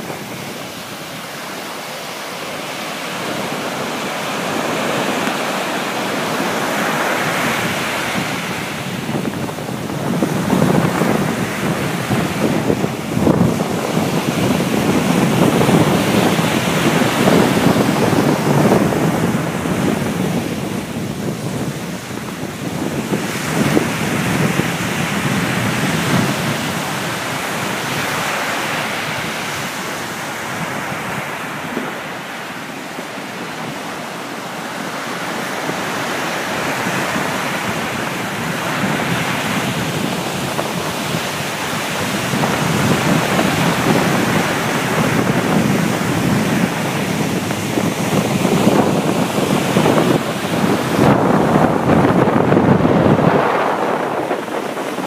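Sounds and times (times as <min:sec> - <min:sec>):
sea surf breaking on beach: 0:00.0 - 0:55.0
wind buffeting microphone: 0:00.0 - 0:55.0.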